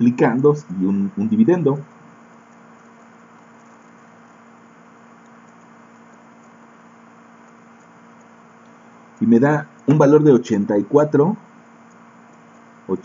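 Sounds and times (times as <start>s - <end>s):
faint electrical hum: 0.0s - 13.0s
low background hiss: 0.0s - 13.0s.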